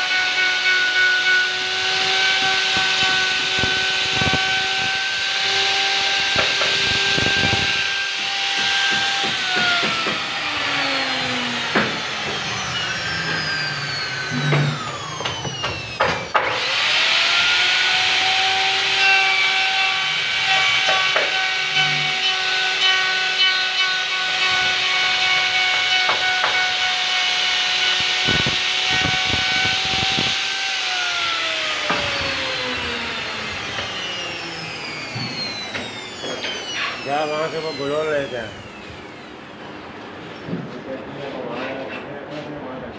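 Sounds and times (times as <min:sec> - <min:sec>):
electric wood router whining: 0:00.0 - 0:40.2.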